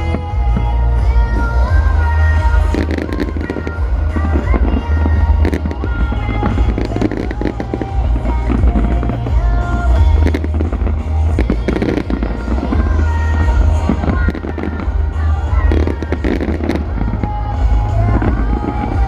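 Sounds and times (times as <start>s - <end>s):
fireworks bangs and crackles: 0.0s - 19.0s
music from loudspeakers: 0.0s - 19.0s.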